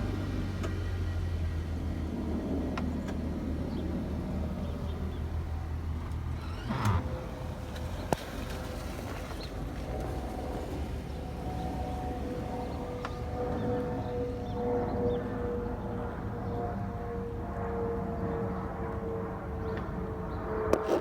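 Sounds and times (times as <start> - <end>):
vehicle engine rumble: 0.0 - 17.8.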